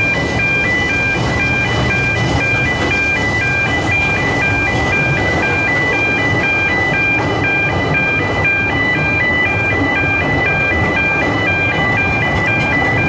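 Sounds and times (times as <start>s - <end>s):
electronic alarm beeping: 0.0s - 13.0s
railway carriages rumbling past: 0.0s - 13.0s.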